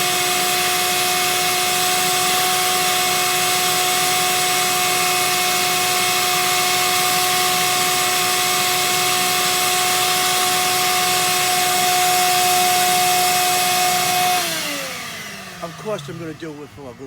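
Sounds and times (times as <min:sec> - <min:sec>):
shop vac running: 0:00.0 - 0:17.0.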